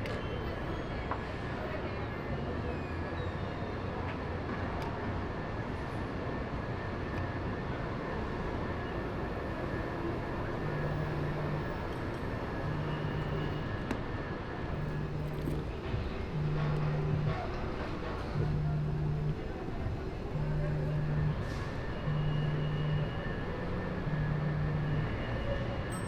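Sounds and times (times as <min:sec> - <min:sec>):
busy street traffic: 0:00.0 - 0:26.0.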